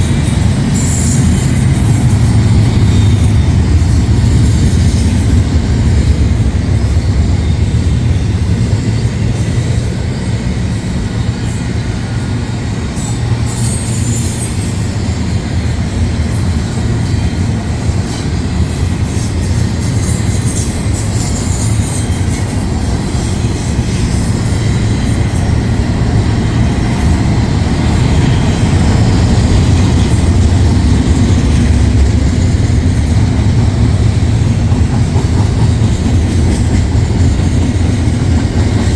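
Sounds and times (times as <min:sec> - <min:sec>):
train wheels rumbling on rails: 0:00.0 - 0:38.9
wheels clacking over rail joints: 0:00.0 - 0:38.9.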